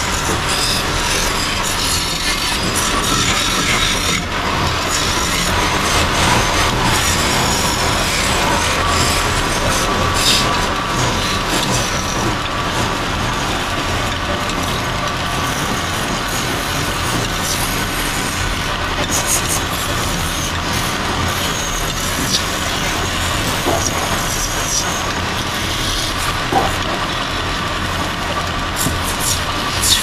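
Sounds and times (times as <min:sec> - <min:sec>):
wood lathe humming: 0:00.0 - 0:30.0.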